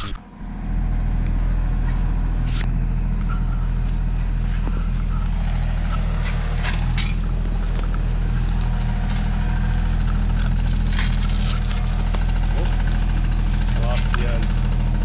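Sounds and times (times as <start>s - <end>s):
tractor diesel engine idling: 0.2s - 15.0s.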